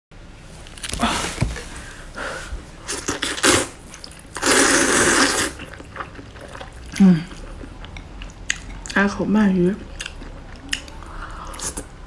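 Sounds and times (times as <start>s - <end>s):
crunchy wet chewing: 0.6s - 1.9s, 2.9s - 12.0s.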